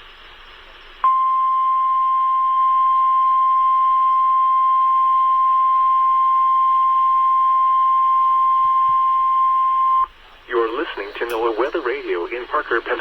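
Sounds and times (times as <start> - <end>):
steady high alarm tone: 1.0 - 13.0.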